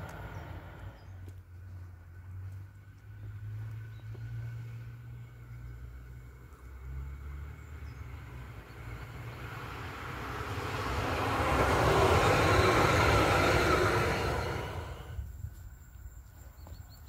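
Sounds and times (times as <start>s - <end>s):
train passing on track: 0.0s - 15.3s.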